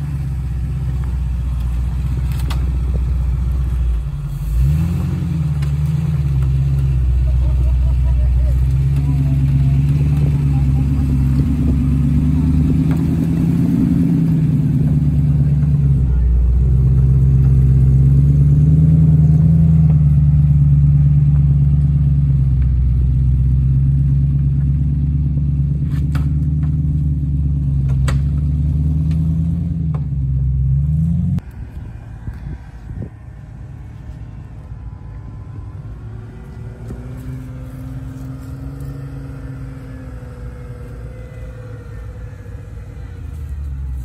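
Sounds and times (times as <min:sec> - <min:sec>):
off-road vehicle engine running: 0:00.0 - 0:44.0.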